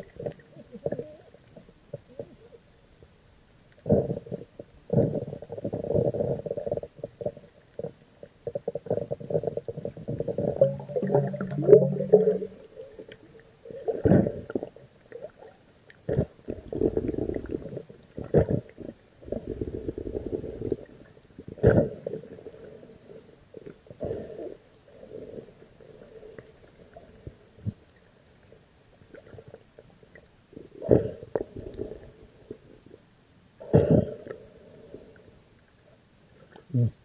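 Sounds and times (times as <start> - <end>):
muffled underwater water surging: 0.0 - 37.0.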